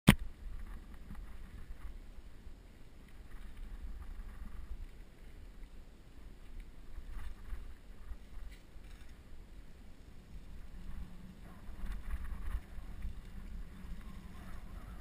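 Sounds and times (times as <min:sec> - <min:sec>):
wind rumbling on microphone: 0:00.1 - 0:15.0
bike rattling: 0:00.3 - 0:15.0.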